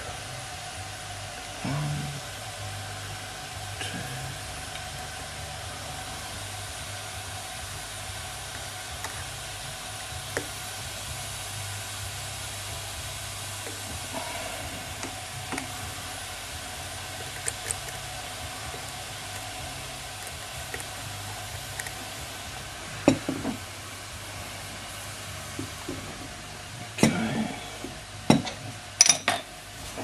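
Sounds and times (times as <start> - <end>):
low hum: 0.0 - 29.0
steam boiler hissing: 0.0 - 30.0.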